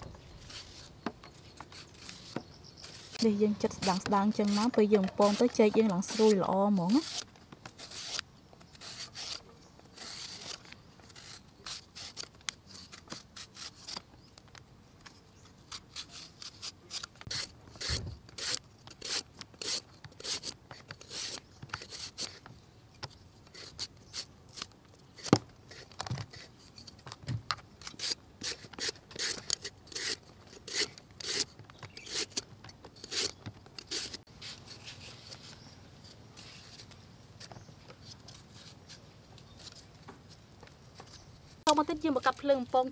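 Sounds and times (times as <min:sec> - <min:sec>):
peeler scraping banana: 0:00.3 - 0:14.0, 0:15.5 - 0:22.5, 0:23.4 - 0:27.0, 0:27.8 - 0:39.8.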